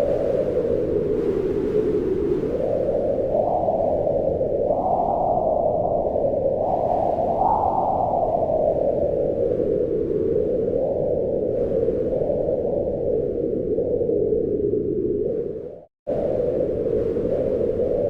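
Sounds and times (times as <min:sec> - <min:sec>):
wind howling in gusts: 0:00.0 - 0:18.0.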